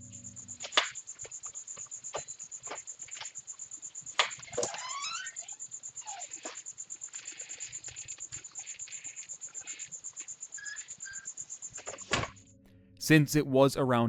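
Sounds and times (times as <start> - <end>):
crickets chirping: 0.0 - 12.6.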